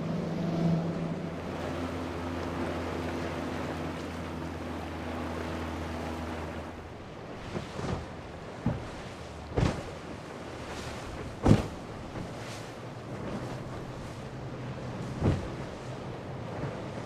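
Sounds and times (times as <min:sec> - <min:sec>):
boat hull slapping waves: 0:00.0 - 0:17.0
outboard engine drone: 0:00.0 - 0:17.0.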